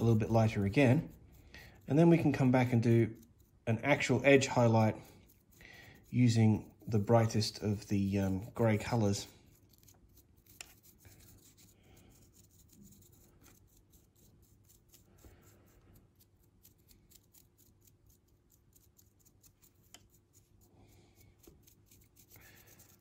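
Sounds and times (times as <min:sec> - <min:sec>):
dry paintbrush scratching plastic: 0:00.0 - 0:23.0.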